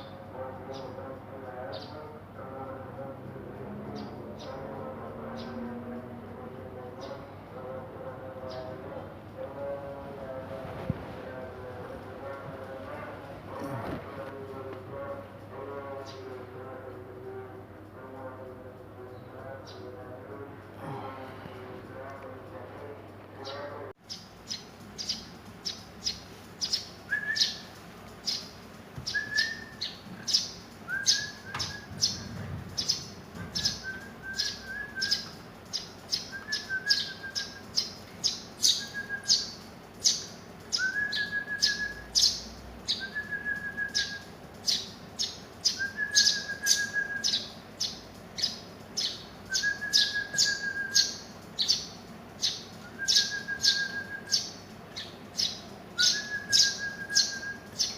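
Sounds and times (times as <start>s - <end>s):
sparrows chirping: 0.0s - 10.6s, 11.2s - 22.6s, 23.4s - 57.9s.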